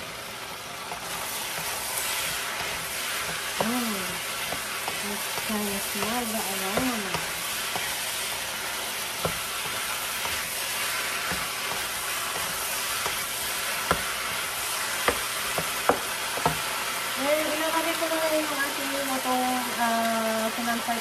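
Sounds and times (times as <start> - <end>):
beef sizzling in frying pan: 0.0 - 21.0.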